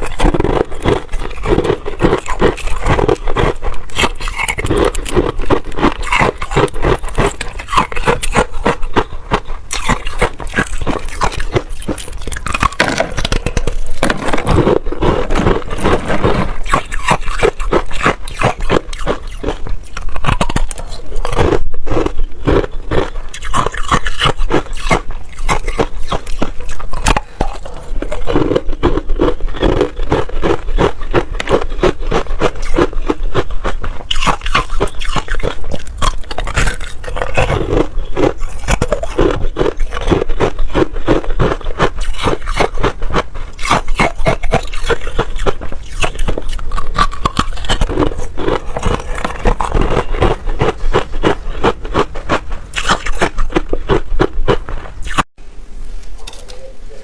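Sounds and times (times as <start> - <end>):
frost crunching being chewed: 0.0 - 55.4.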